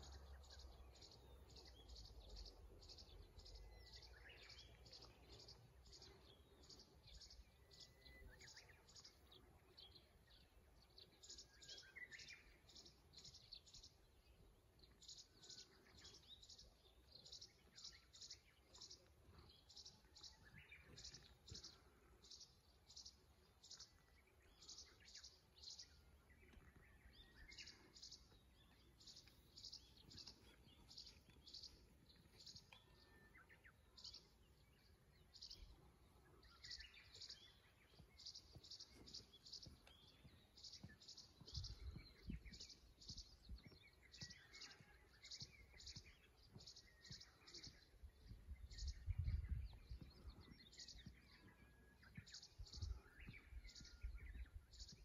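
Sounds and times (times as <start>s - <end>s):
soft bird calls: 0.0s - 55.0s.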